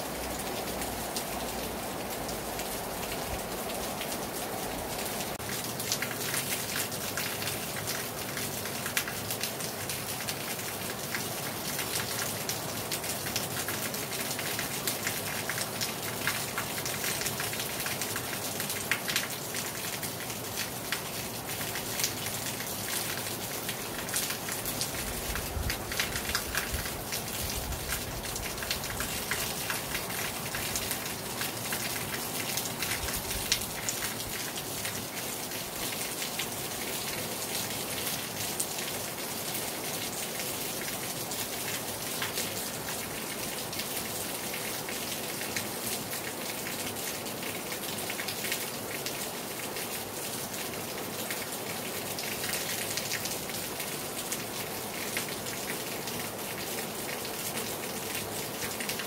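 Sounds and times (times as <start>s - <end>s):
raindrops pattering: 0.0s - 59.0s.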